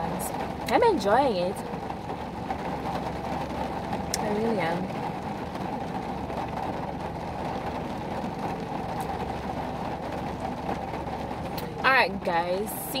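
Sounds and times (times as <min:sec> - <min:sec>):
low rumble inside a car: 0:00.0 - 0:13.0.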